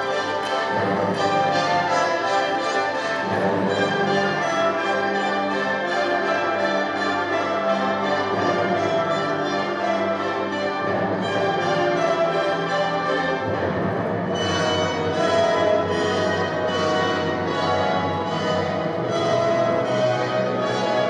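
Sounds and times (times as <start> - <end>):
orchestral music over loudspeakers: 0.0 - 21.0.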